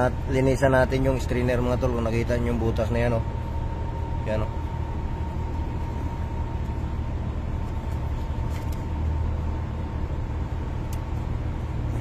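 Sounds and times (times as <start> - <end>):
faint high whine: 0.0 - 12.0
low mechanical rumble: 0.0 - 12.0.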